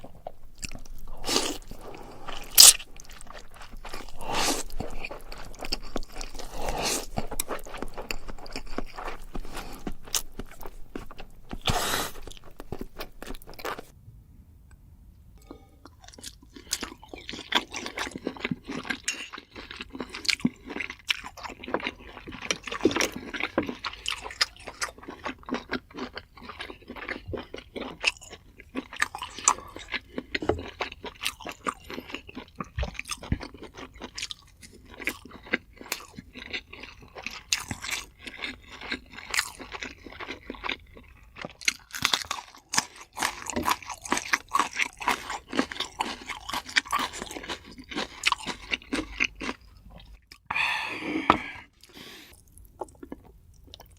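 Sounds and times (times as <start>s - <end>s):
person chewing and crunching food: 0.0s - 13.9s, 15.4s - 53.9s.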